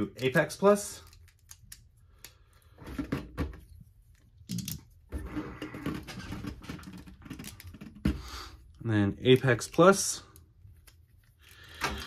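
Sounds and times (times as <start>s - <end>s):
rustling of parts: 0.0s - 12.0s.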